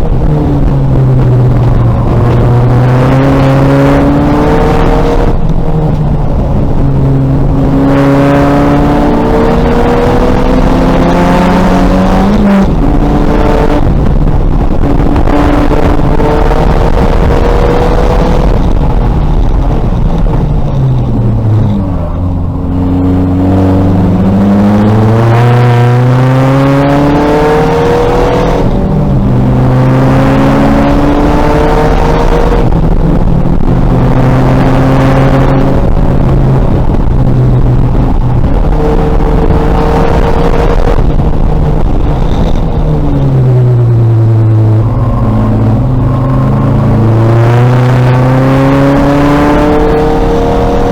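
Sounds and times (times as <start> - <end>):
race car engine at full throttle: 0.0 - 50.9.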